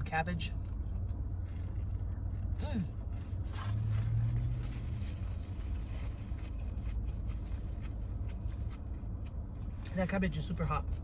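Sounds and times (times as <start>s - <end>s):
car air conditioning hum: 0.0s - 11.0s
clicks and scrapes of eating: 0.6s - 10.0s.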